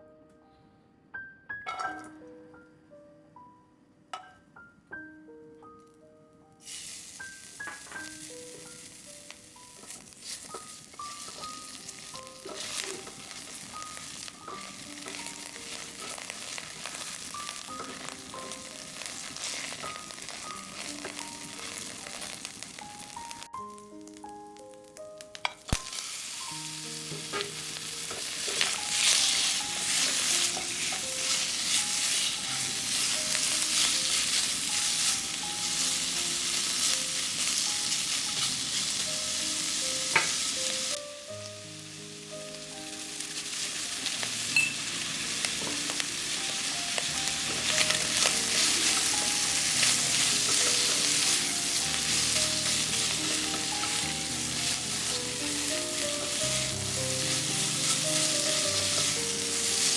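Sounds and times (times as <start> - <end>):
soft background music: 0.0 - 59.9
stir-fry sizzling in a hot pan: 6.6 - 24.4, 25.2 - 59.9.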